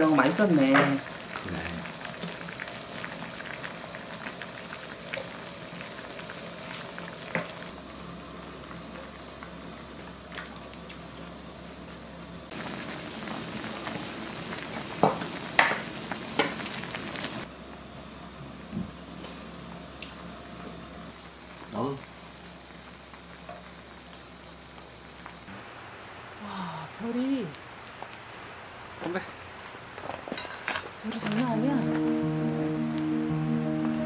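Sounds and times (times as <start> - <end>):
broth bubbling in a pot: 0.0 - 29.2.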